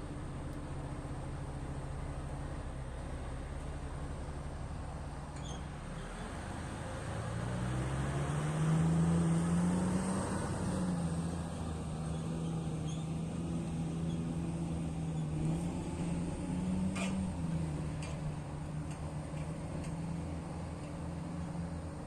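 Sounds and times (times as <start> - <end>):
heavy diesel engine under load: 0.0 - 22.0.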